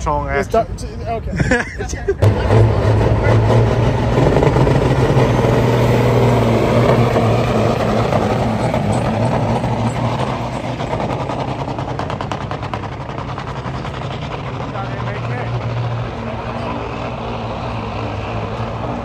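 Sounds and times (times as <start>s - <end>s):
diesel truck engine at full throttle: 0.0s - 19.0s.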